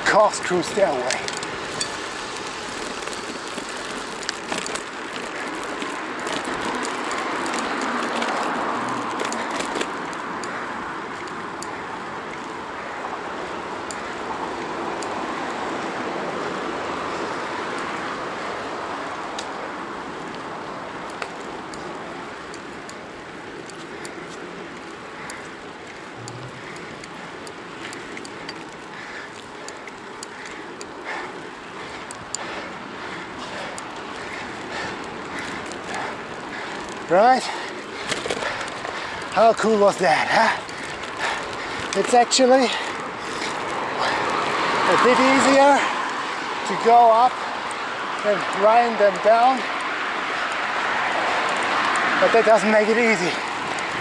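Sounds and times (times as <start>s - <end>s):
bike clicks and rattles: 0.0s - 54.0s
bike tyre and wind rush: 0.0s - 54.0s.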